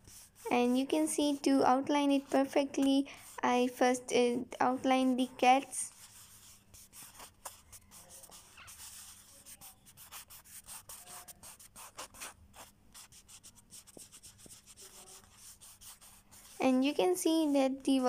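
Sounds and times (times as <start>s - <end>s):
scratchy brush strokes on card: 0.0s - 3.9s, 4.8s - 18.0s.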